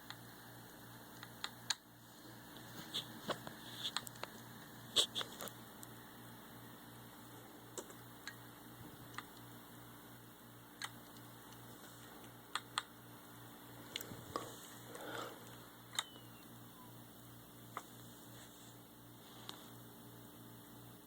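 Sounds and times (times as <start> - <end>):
computer pulsing hum: 0.0 - 19.2.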